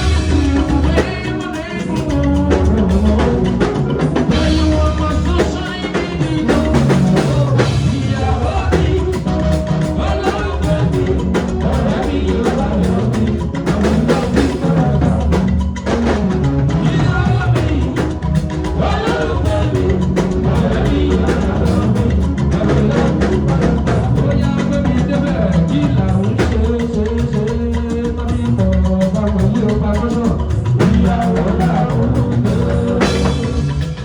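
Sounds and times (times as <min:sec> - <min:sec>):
song with singing: 0:00.0 - 0:34.0
steady drum beat: 0:00.0 - 0:34.0.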